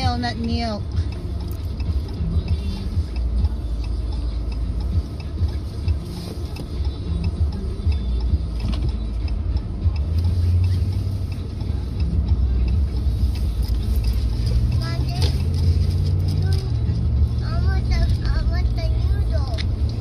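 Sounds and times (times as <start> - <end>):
car driving rumble from inside: 0.0 - 20.0.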